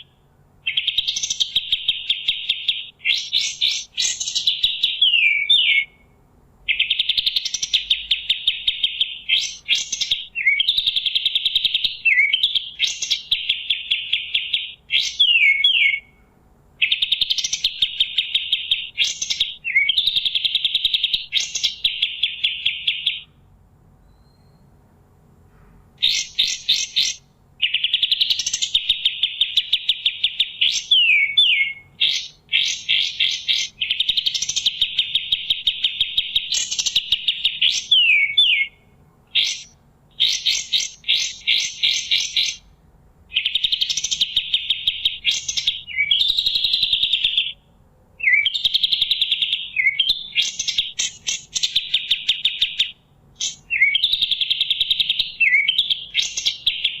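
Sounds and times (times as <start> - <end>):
bird singing trills: 0.0 - 23.4, 24.0 - 24.8, 26.0 - 57.0.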